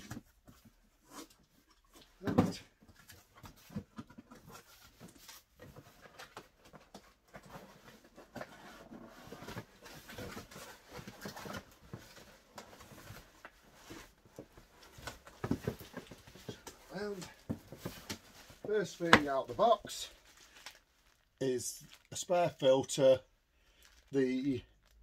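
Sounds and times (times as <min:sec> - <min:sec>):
cardboard scraping and rustling: 0:00.1 - 0:20.8.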